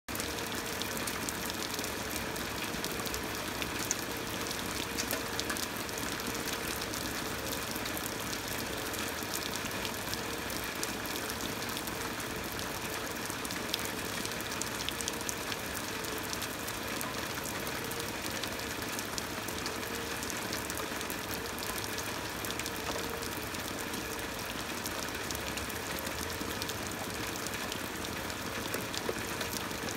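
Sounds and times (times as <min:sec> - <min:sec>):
rain falling into shallow water: 0:00.1 - 0:29.9.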